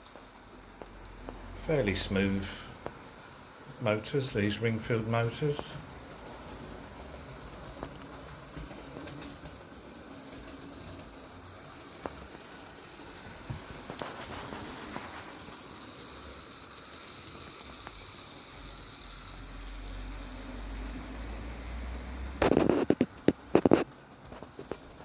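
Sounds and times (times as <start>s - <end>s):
model locomotive motor whirring: 0.0s - 25.0s.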